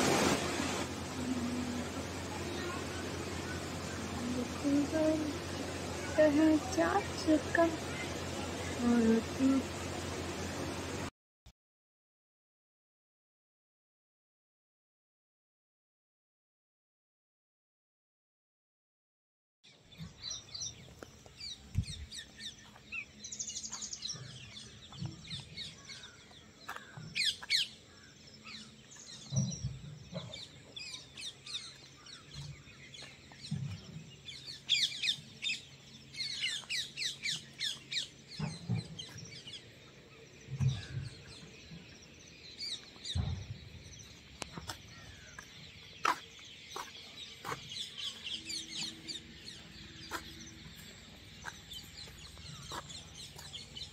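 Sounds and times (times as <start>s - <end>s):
small birds chirping: 0.2s - 11.1s, 19.7s - 53.9s.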